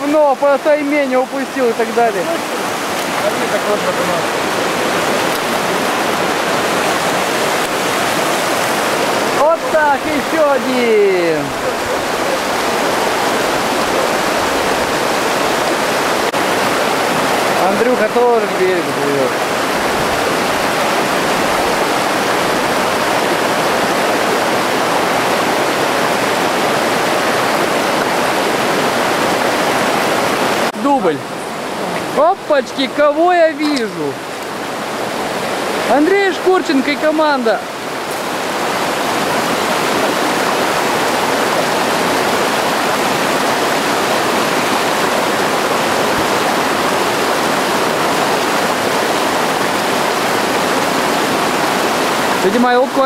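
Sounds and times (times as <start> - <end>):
river rapids rushing: 0.0 - 53.0
whitewater roaring over rocks: 0.0 - 53.0.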